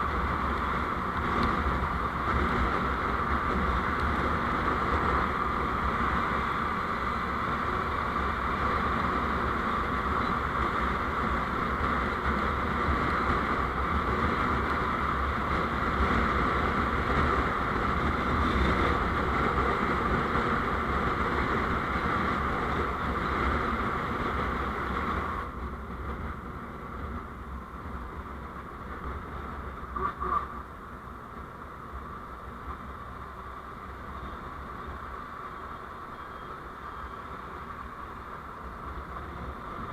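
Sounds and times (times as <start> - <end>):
vehicle road noise: 0.0 - 39.9.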